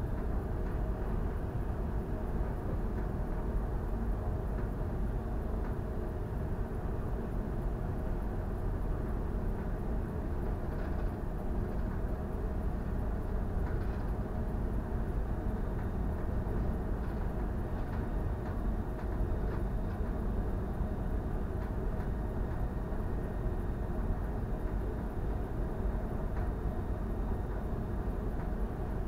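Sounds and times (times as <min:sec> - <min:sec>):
faint machinery hum: 0:00.0 - 0:29.0.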